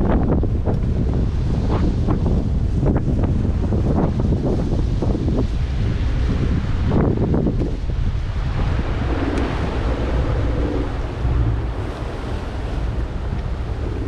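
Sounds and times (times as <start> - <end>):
sea surf against rocks: 0.0 - 14.0
wind buffeting microphone: 0.0 - 14.0.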